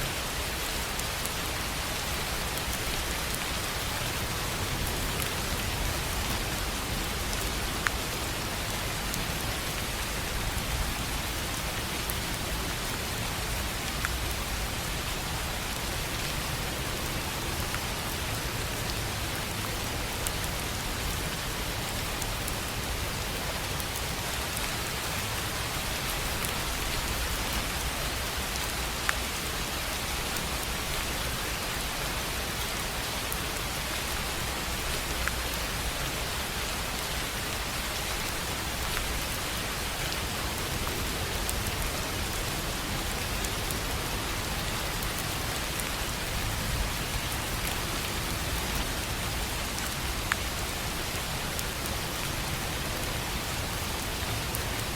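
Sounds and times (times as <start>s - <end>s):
rain on a tin roof: 0.0s - 54.9s.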